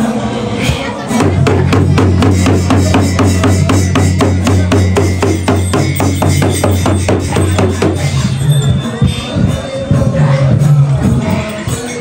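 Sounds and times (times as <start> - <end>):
fast drumbeat: 1.1 - 11.8.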